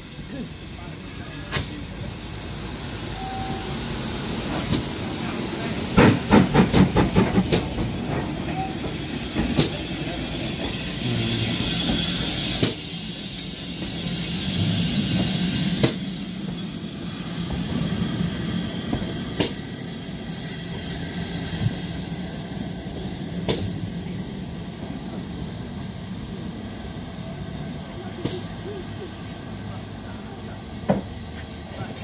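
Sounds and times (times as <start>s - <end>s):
steam locomotive moving slowly: 0.0s - 32.0s.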